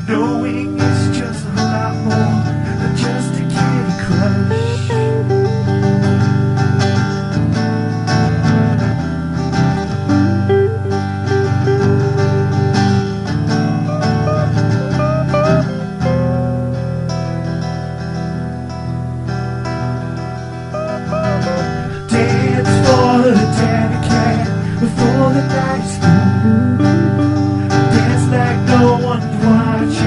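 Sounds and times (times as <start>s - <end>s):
country acoustic guitar music: 0.0s - 30.0s.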